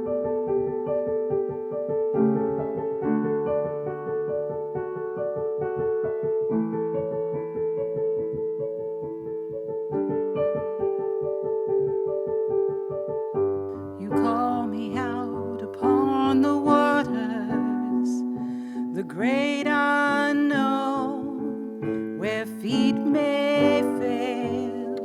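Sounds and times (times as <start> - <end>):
piano playing: 0.0 - 25.0.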